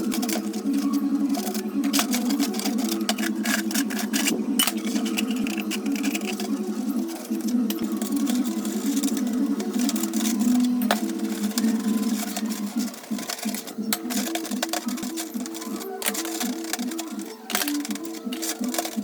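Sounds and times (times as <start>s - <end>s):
rhythmic background music: 0.0s - 19.0s.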